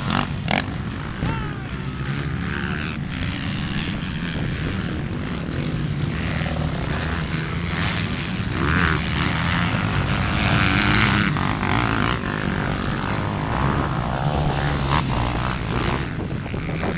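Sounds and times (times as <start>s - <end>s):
engine drone: 0.0s - 16.9s.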